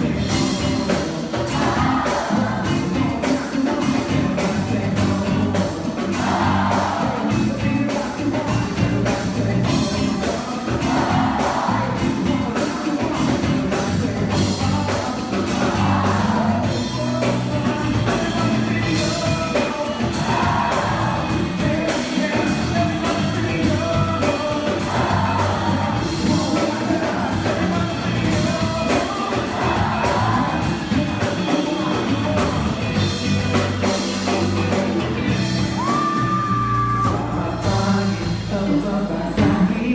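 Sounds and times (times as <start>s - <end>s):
live band music: 0.0s - 39.9s
person singing: 0.0s - 39.9s
steady drum beat: 0.0s - 39.9s.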